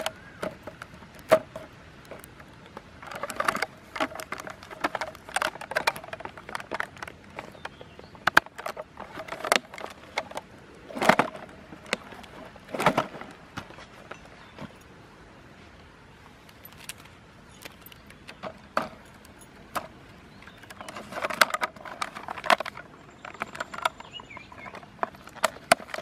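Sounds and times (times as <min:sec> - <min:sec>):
plastic bottle and sticks clicking: 0:00.0 - 0:13.4, 0:16.5 - 0:26.0.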